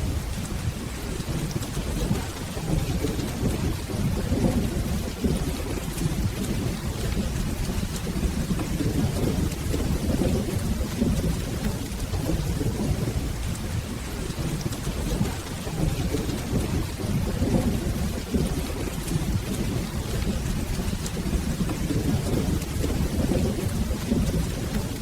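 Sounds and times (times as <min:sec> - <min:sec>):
rolling thunder rumble: 0:00.0 - 0:25.0
steady rain: 0:00.0 - 0:25.0.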